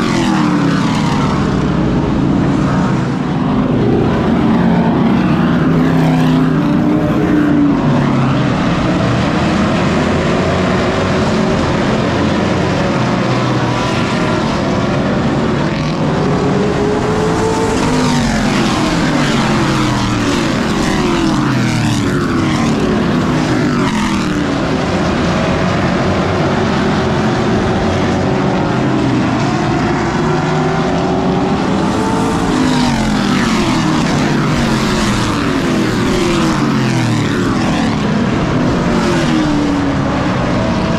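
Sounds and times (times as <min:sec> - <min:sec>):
racing truck engines accelerating: 0:00.0 - 0:40.9.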